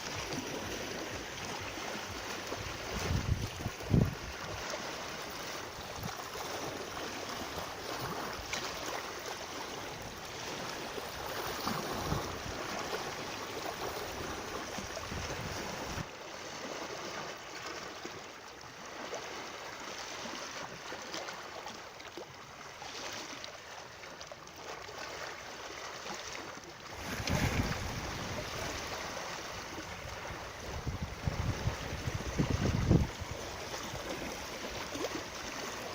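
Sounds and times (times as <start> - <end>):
running water rushing: 0.0 - 35.9.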